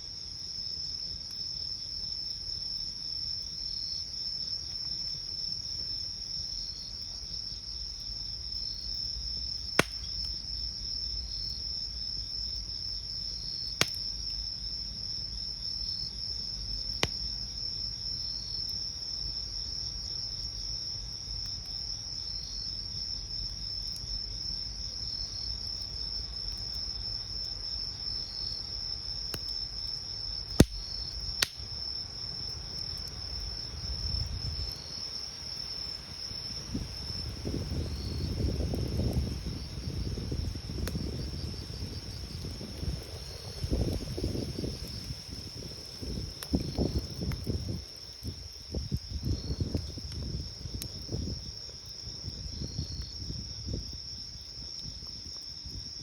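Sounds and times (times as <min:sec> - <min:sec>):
insect chirping: 0:00.0 - 0:56.0
night insects trilling: 0:00.0 - 0:56.0
campfire wood popping: 0:00.7 - 0:27.5, 0:29.1 - 0:55.9.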